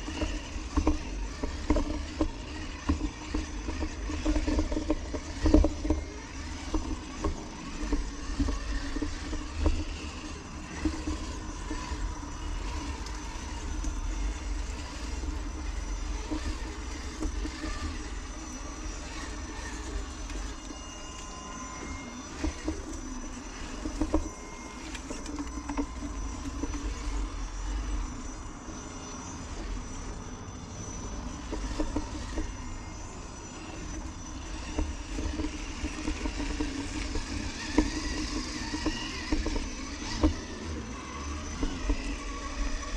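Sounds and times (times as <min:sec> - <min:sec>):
electric motor whining: 0:00.0 - 0:42.9.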